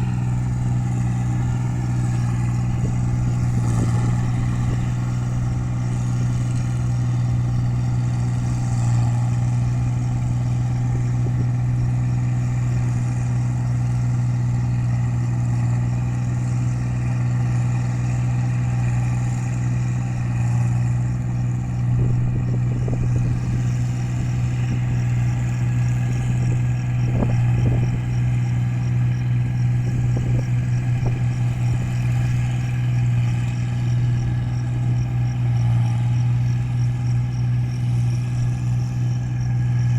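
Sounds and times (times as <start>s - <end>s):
harvester engine drone: 0.0s - 39.9s.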